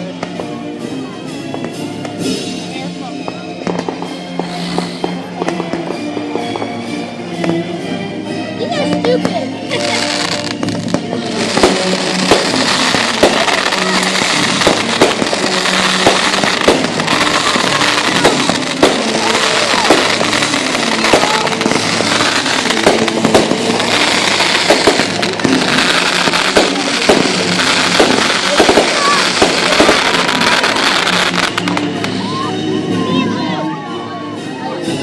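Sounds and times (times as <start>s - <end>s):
music playing: 0.0s - 35.0s
fireworks banging: 1.5s - 7.7s, 8.9s - 32.2s.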